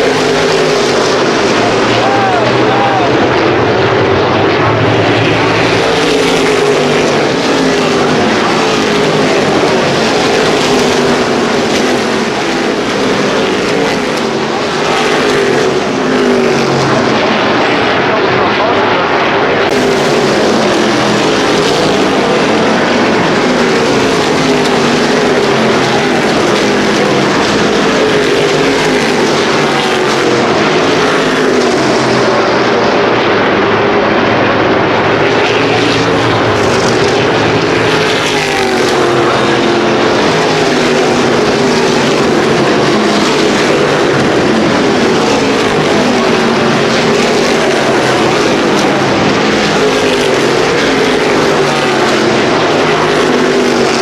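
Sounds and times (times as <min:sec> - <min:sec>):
race car engines running: 0:00.0 - 0:54.0.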